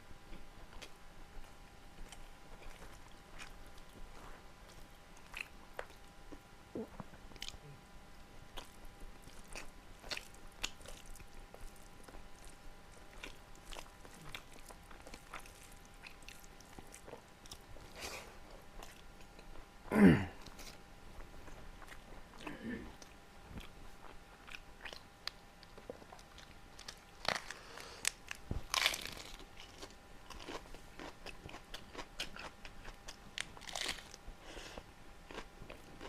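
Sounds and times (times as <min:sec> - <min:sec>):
person chewing and biting: 0:00.3 - 0:07.6, 0:08.5 - 0:19.6, 0:20.4 - 0:36.0.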